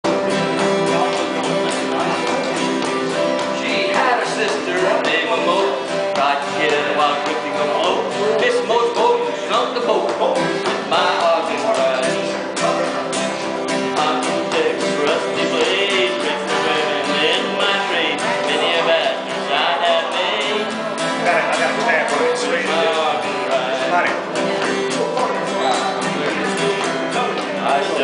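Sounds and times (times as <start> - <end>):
guitar: 0.0 - 28.0
live band playing upbeat music: 0.0 - 28.0.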